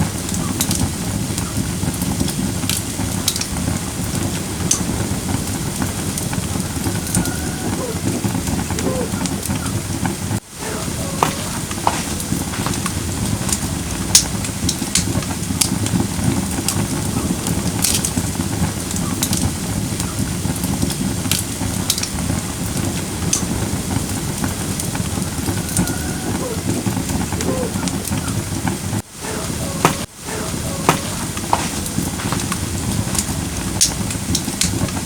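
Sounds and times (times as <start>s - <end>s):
fire crackling and popping: 0.0s - 35.0s
fire flames rushing: 0.0s - 35.0s.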